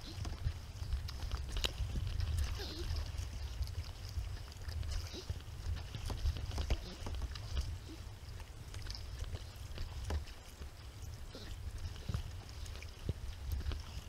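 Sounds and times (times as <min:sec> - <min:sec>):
low uneven rumble: 0:00.0 - 0:14.0
paddle splashing in water: 0:00.0 - 0:14.0.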